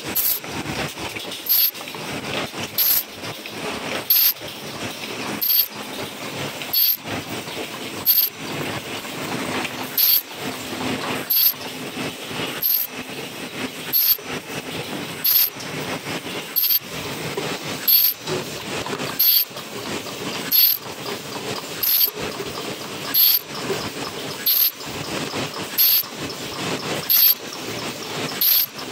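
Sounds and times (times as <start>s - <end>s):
machine running: 0.0s - 28.9s.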